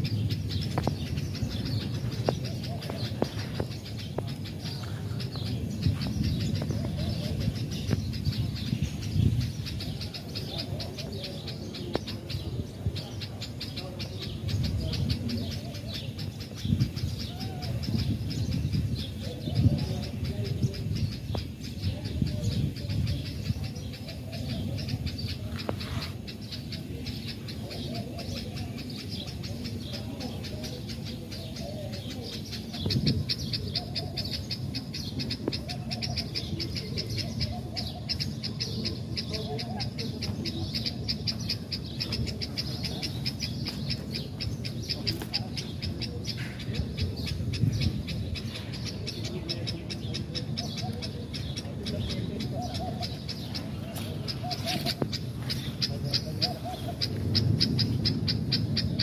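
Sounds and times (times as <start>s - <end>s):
low cooing bird calls: 0.0s - 59.0s.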